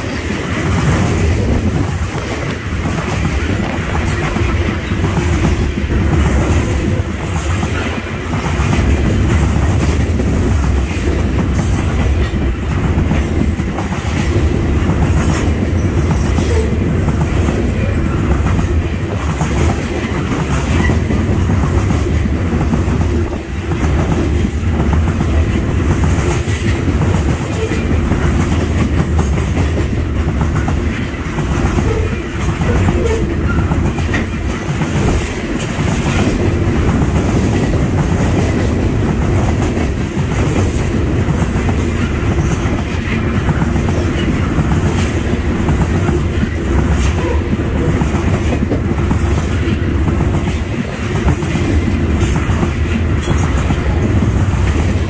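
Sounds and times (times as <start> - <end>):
train rumble: 0.0 - 55.0
wheels clicking over rail joints: 0.0 - 55.0.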